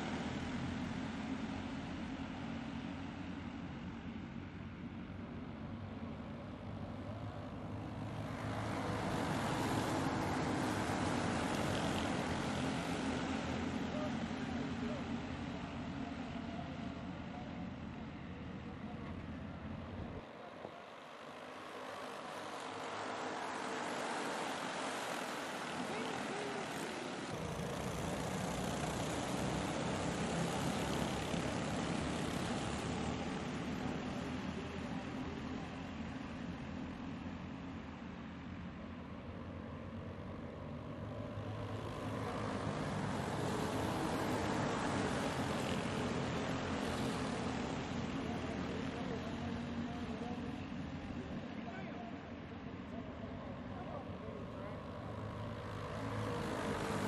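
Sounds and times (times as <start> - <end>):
go-kart engines buzzing: 0.0 - 57.0.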